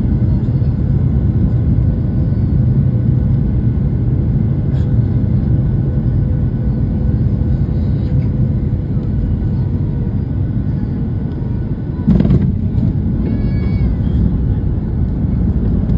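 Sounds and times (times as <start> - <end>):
airplane cabin rumble: 0.0 - 15.9.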